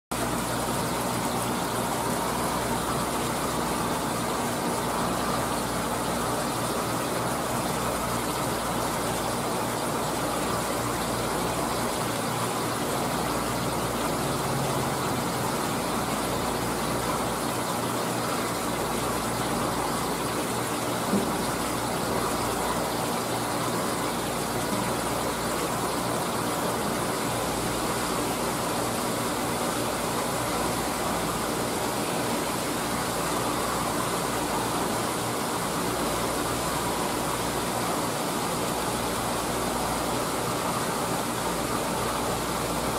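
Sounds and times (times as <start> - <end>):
aquarium pump motor hum: 0.1 - 42.9
circulating water rushing: 0.1 - 42.9.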